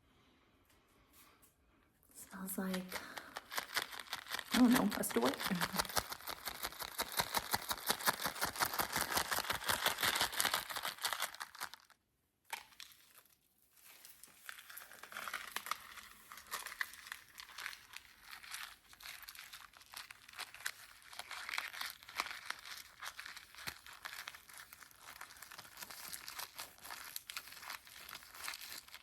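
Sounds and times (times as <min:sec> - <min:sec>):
packaging crinkling: 0:02.6 - 0:29.0.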